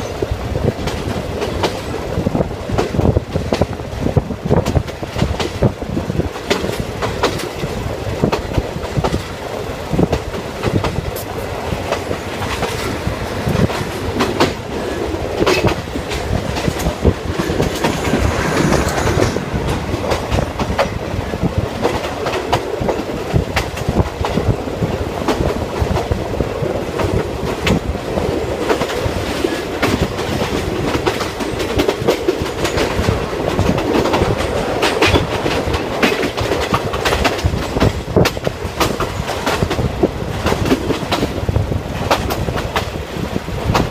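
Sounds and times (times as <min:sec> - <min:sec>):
train rumble: 0:00.0 - 0:43.9
train wheels clattering over joints: 0:00.0 - 0:43.9.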